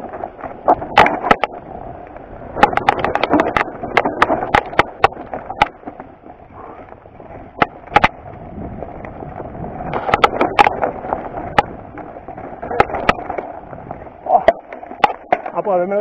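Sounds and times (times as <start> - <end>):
bike clattering over rocks: 0.0 - 16.0
tyres crunching over stones: 0.0 - 16.0.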